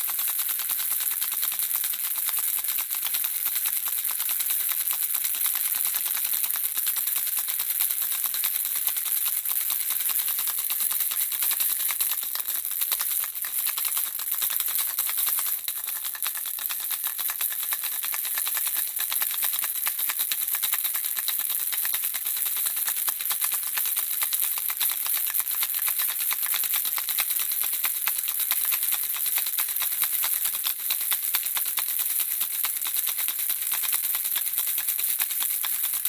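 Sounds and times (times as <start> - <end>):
baby rattle shaken: 0.0 - 36.0.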